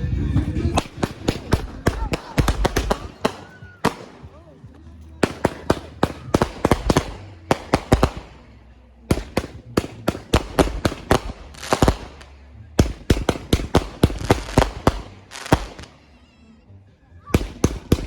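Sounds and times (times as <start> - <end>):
fireworks banging: 0.0 - 16.0, 17.4 - 18.0.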